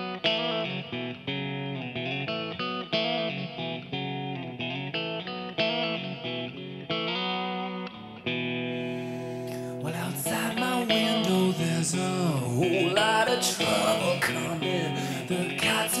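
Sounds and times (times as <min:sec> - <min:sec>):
electric guitar riff: 0:00.0 - 0:16.0.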